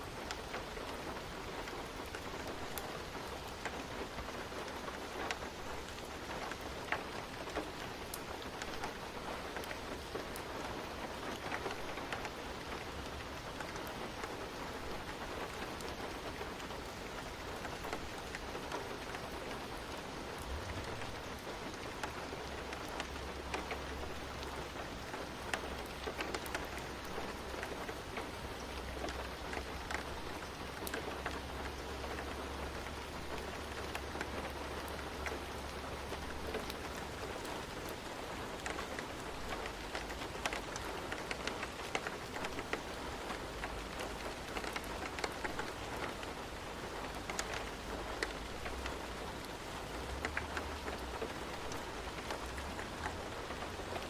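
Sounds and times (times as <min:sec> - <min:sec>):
raindrops ticking: 0:00.0 - 0:54.0
steady rain on a surface: 0:00.0 - 0:54.0.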